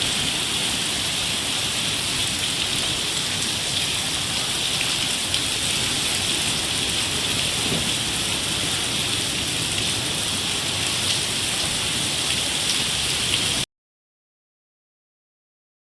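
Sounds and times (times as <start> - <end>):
heavy rain pouring: 0.0 - 13.7.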